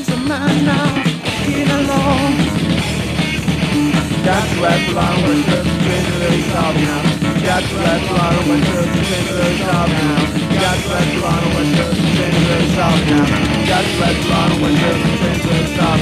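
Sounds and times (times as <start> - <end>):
loud rock band playing: 0.0 - 16.0.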